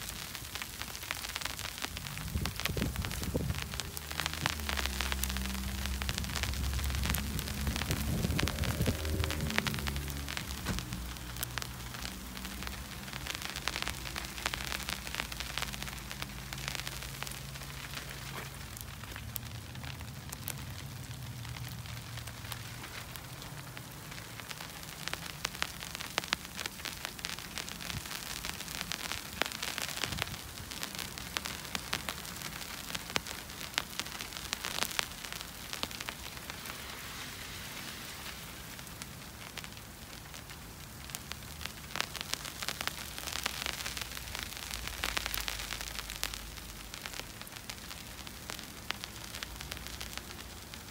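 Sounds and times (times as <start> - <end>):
snow pattering on an umbrella: 0.0 - 50.9.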